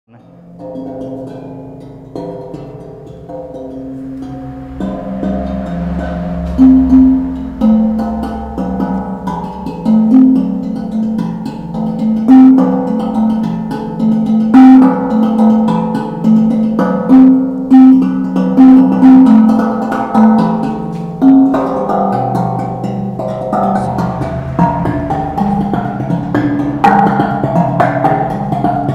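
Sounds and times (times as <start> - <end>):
tongue drum melody: 0.1 - 28.9.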